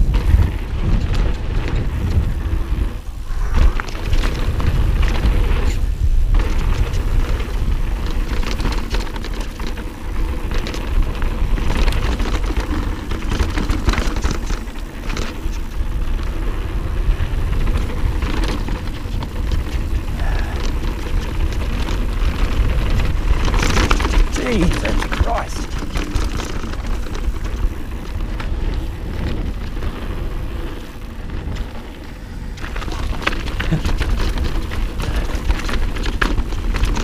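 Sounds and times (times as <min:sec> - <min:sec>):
bike clicks and rattles: 0:00.0 - 0:37.0
tyres on dirt: 0:00.0 - 0:37.0
wind on camera microphone: 0:00.0 - 0:37.0.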